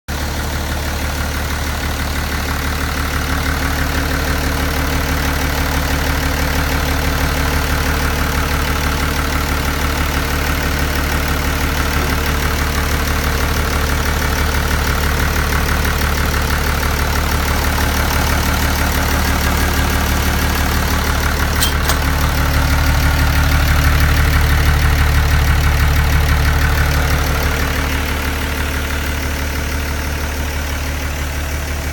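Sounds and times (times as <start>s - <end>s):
excavator diesel engine idling: 0.1s - 31.9s.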